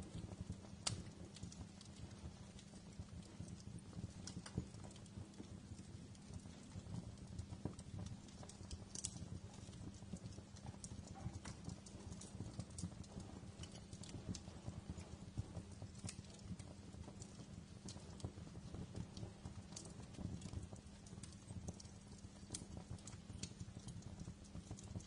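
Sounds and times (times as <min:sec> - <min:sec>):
fire pops and snaps: 0:00.0 - 0:25.0
low rush of burning: 0:00.0 - 0:25.0
wood fire crackling: 0:00.0 - 0:25.0.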